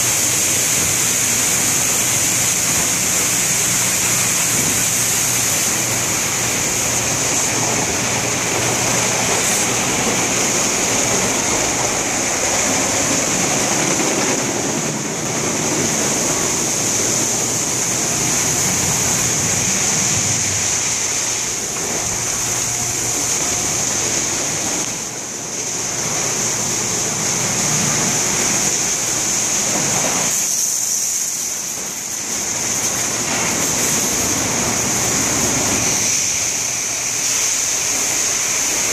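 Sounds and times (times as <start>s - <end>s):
machinery humming: 0.0s - 38.9s
water jets spraying: 0.0s - 38.9s.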